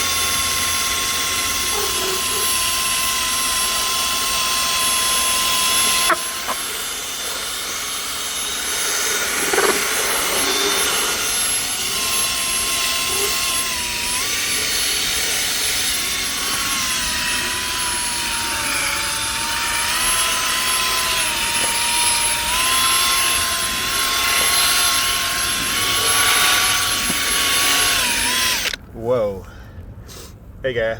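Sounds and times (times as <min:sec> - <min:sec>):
small electric motor whining: 0:00.0 - 0:28.8.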